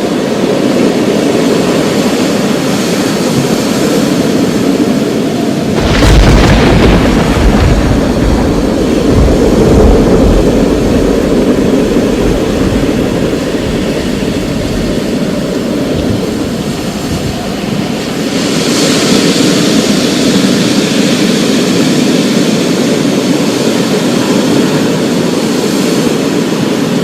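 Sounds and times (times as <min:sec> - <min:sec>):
steady rain: 0:00.0 - 0:27.0
thunder rumbling: 0:00.0 - 0:27.0.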